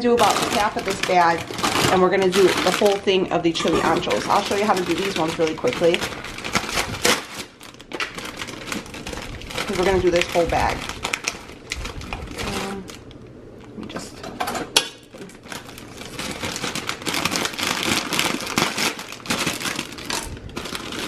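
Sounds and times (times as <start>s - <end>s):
dried peppers crackling: 0.0s - 13.8s, 15.1s - 21.0s
plastic bag crinkling: 0.0s - 13.8s, 15.1s - 21.0s.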